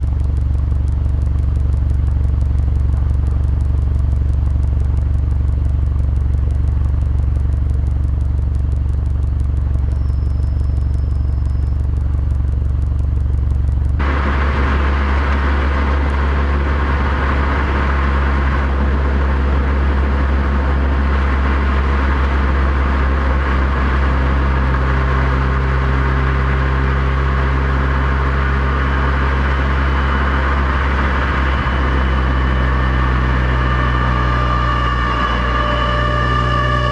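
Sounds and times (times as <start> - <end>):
car engine drone: 0.0 - 36.9
road and tyre noise: 0.0 - 36.9.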